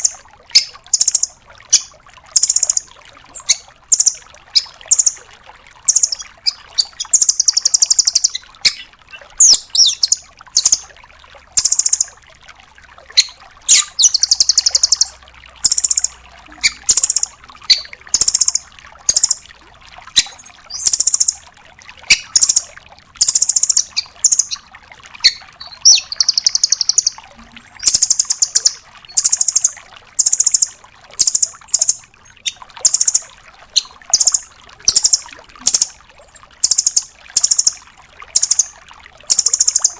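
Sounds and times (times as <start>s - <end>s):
bird high-pitched trills: 0.0s - 5.2s, 5.9s - 10.8s, 11.6s - 12.1s, 13.2s - 19.4s, 20.2s - 21.4s, 22.1s - 24.6s, 25.2s - 36.0s, 36.6s - 37.8s, 38.4s - 38.7s, 39.3s - 39.9s.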